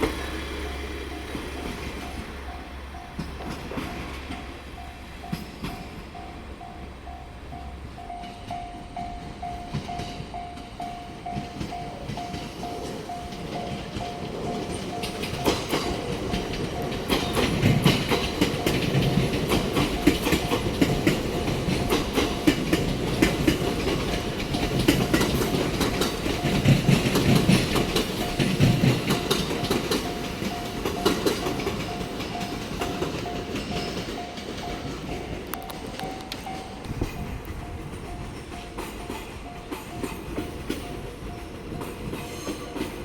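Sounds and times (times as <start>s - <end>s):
level-crossing warning bell: 0.0s - 43.0s
train wheels clattering over rails: 0.0s - 43.0s.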